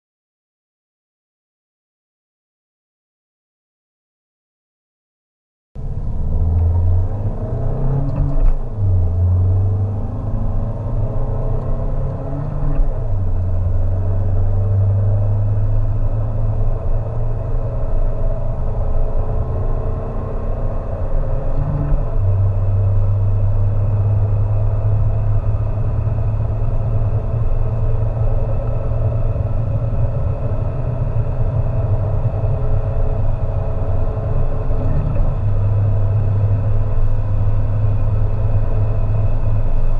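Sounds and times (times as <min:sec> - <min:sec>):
car engine accelerating hard: 0:05.8 - 0:39.9.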